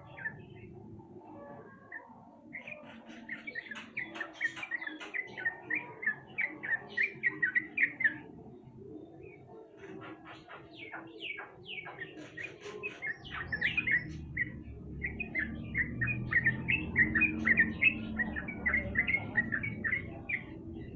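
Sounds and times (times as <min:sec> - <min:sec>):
bird chirping song: 0:00.0 - 0:20.9.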